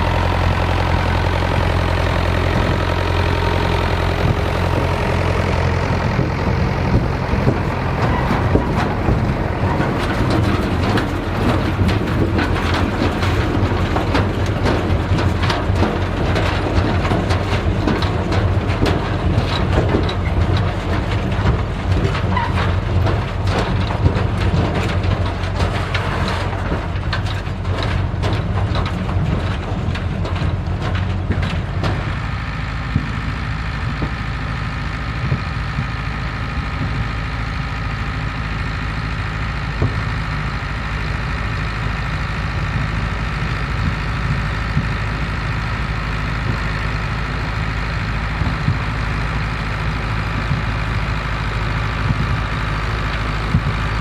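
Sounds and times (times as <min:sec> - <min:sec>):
machinery clattering and clicking: 0:00.0 - 0:54.0
tractor engines running: 0:00.0 - 0:54.0.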